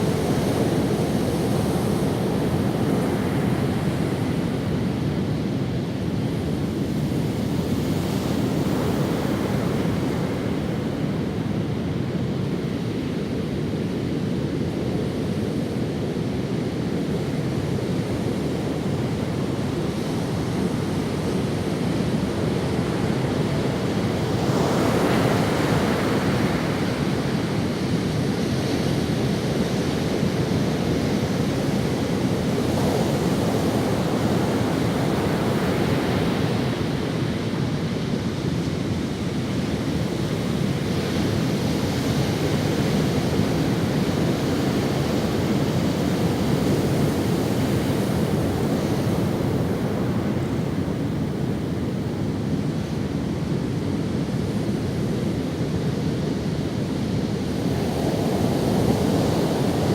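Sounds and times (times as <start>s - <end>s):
ocean waves on sandy beach: 0.0s - 59.9s.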